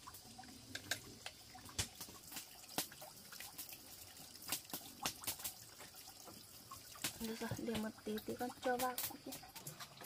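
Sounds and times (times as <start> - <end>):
water dripping: 0.0 - 10.0.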